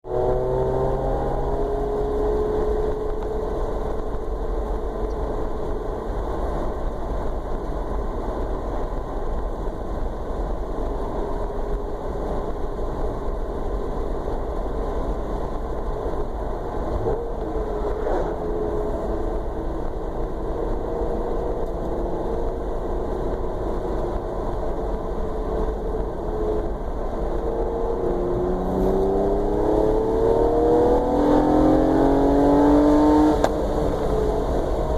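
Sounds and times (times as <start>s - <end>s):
engine idling and revving: 0.0s - 34.9s.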